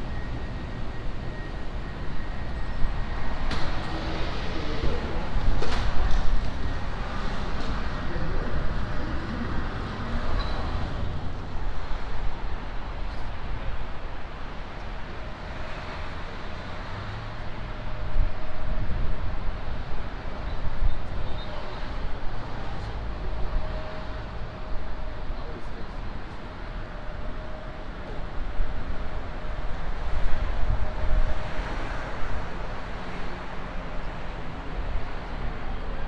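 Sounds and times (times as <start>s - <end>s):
low transit rumble and hiss: 0.0s - 36.0s.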